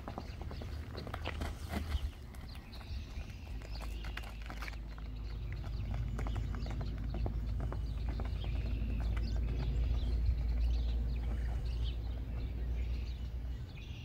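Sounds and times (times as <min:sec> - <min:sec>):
birds chirping: 0:00.0 - 0:14.0
hoofbeats on gravel: 0:00.0 - 0:14.0.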